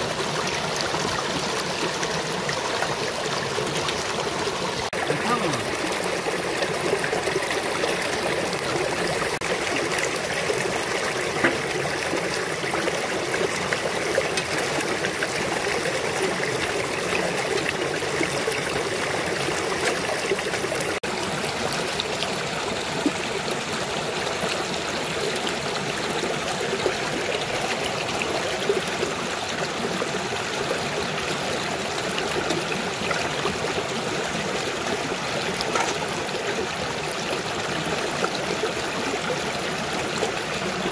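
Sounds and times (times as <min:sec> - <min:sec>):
stream running over rocks: 0:00.0 - 0:40.9.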